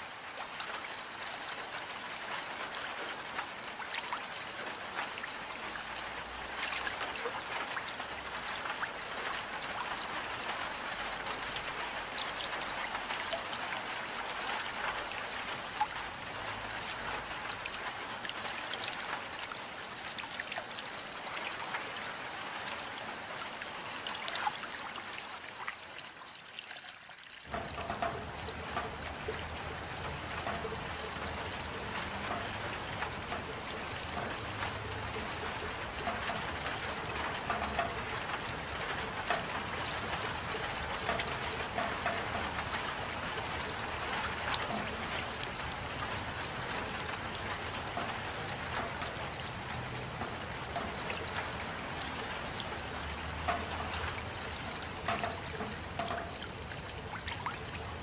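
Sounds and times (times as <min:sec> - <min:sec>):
rain drops ticking: 0:00.0 - 0:58.0
water trickling: 0:00.0 - 0:58.0.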